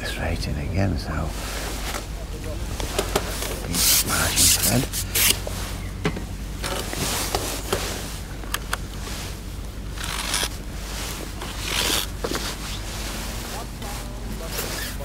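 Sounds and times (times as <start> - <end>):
wind rumble on microphone: 0.0 - 13.8
short rustles and scrapes: 1.3 - 6.0, 6.6 - 15.0.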